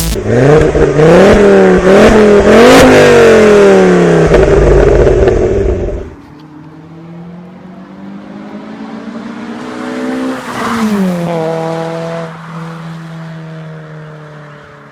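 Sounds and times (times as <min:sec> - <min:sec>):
car engine and exhaust revving: 0:00.0 - 0:14.4.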